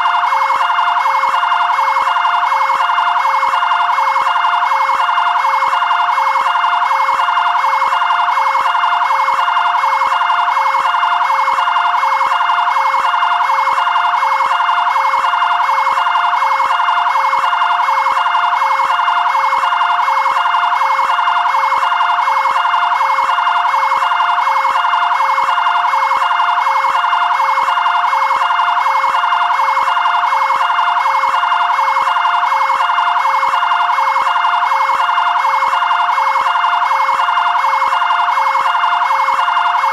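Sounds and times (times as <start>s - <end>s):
two-tone siren: 0.0s - 39.9s.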